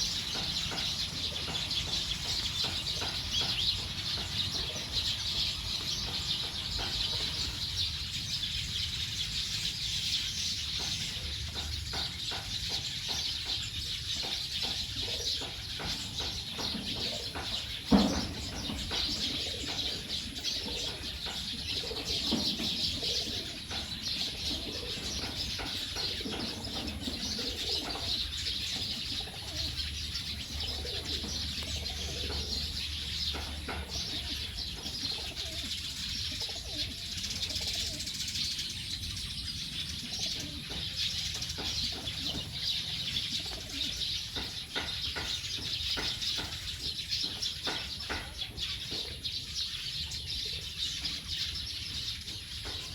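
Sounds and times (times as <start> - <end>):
chorus of birds chirping: 0.0 - 52.9.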